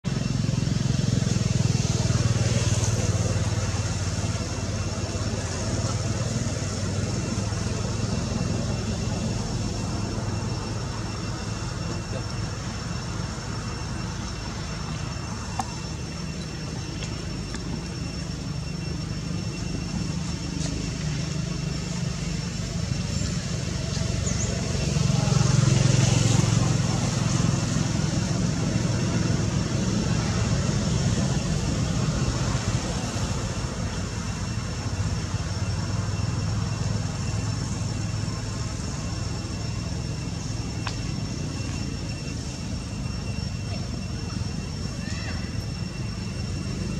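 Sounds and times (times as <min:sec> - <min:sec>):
high steady ringing tone: 0:00.0 - 0:46.9
outdoor background rumble: 0:00.0 - 0:46.9.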